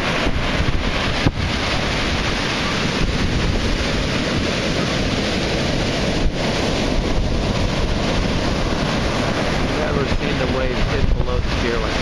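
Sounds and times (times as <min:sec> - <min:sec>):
surf breaking on pilings: 0:00.0 - 0:12.0
wind buffeting microphone: 0:00.0 - 0:12.0.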